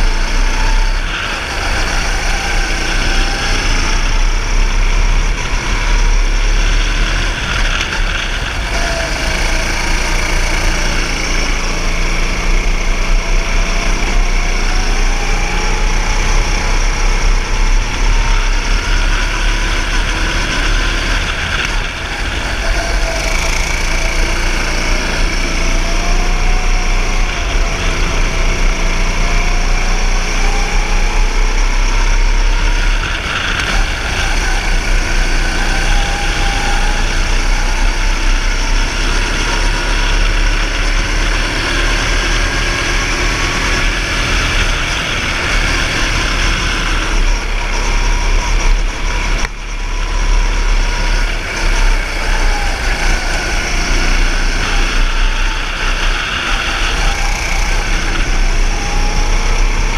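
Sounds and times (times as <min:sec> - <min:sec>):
go-kart engine at full throttle: 0:00.0 - 0:59.9.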